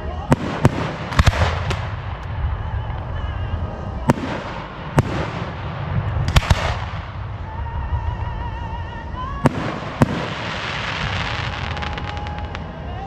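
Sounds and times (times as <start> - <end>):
fireworks bursting in bangs: 0.0 - 13.0
low rumble: 0.6 - 13.0.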